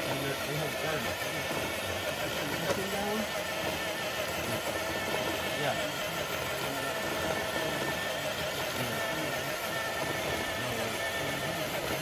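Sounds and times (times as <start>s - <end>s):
engine-like hum with whine: 0.0s - 12.0s.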